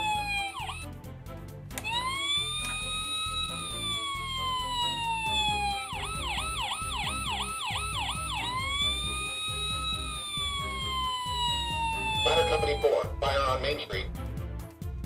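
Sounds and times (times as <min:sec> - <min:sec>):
toy electronic siren: 0:00.0 - 0:00.9, 0:01.8 - 0:13.1.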